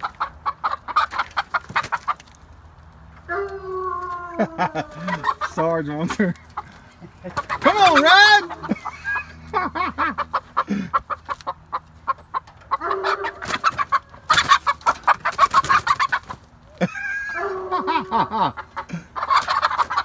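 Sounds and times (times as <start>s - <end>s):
hens squawking and clucking: 0.0s - 20.0s.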